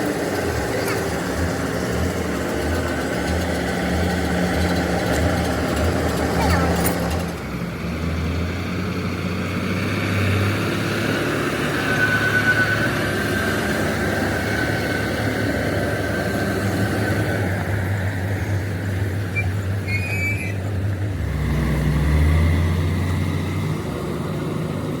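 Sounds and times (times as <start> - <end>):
heavy vehicle engine drone: 0.0 - 25.0.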